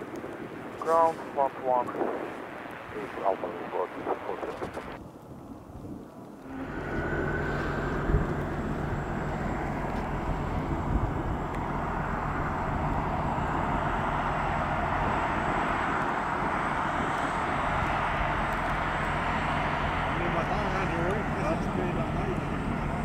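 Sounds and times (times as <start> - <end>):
jet engines running: 0.0 - 5.2, 6.0 - 23.0.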